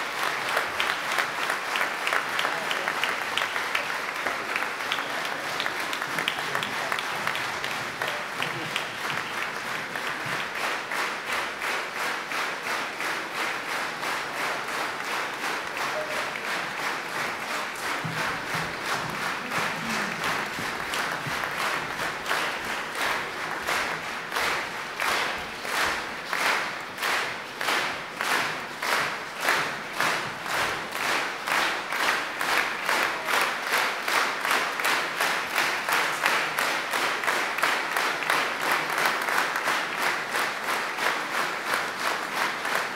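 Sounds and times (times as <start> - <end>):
audience applauding: 0.0 - 42.9
rhythmic clapping in unison: 0.0 - 42.9.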